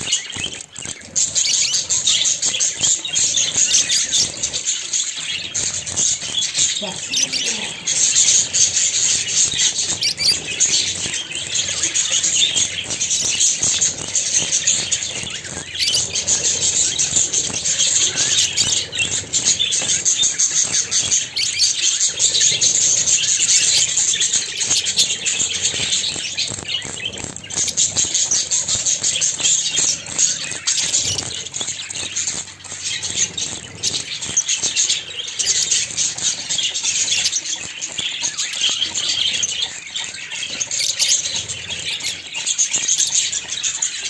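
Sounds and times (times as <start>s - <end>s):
budgerigars chattering: 0.0s - 44.0s.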